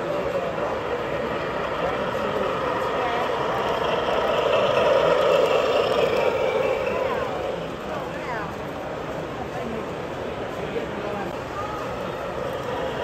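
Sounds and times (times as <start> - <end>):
indistinct crowd chatter: 0.0 - 13.0
model train running: 0.0 - 13.0.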